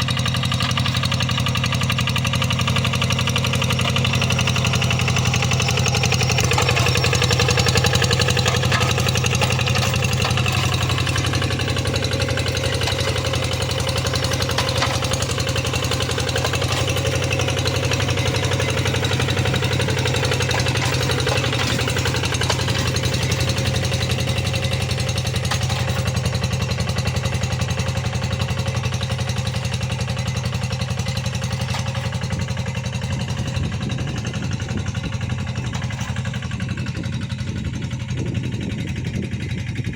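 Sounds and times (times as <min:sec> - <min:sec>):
tractor engine knocking: 0:00.0 - 0:39.9.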